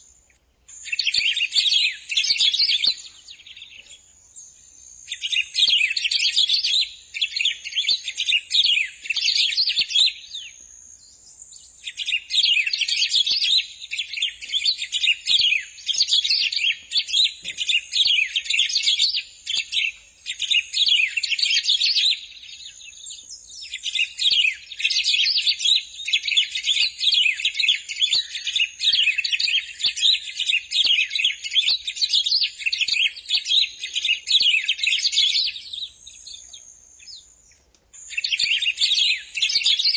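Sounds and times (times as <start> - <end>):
bird chattering song: 0.0 - 10.6, 11.2 - 39.9.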